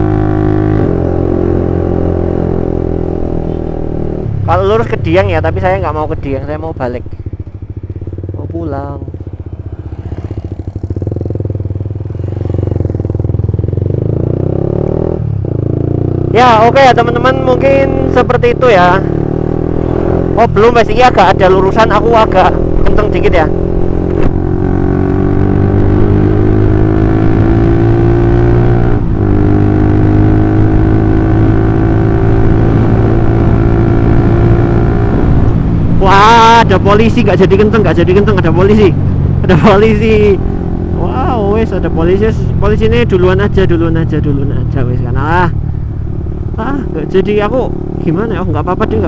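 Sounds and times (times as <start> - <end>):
motorcycle engine exhaust beat: 7.0 - 49.0.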